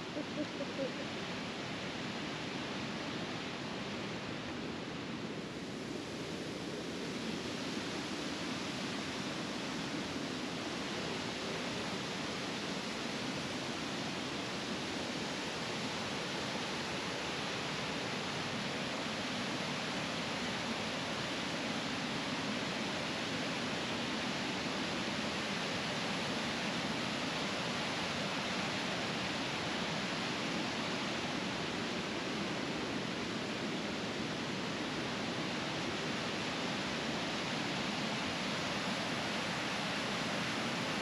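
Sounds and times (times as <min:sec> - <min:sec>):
river rushing over rapids: 0:00.0 - 0:41.0.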